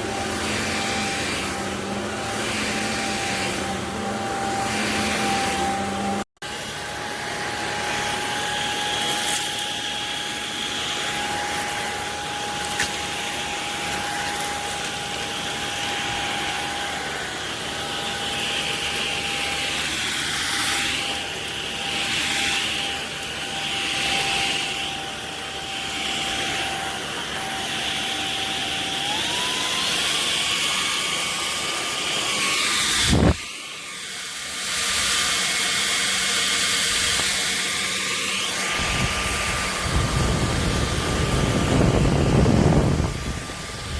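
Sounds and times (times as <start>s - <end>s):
stick vacuum motor whine: 0.0s - 43.9s.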